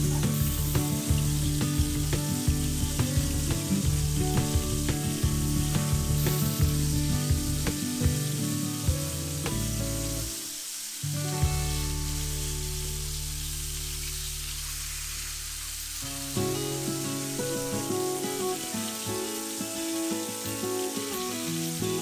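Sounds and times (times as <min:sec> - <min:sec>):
fish frying in oil: 0:00.0 - 0:22.0.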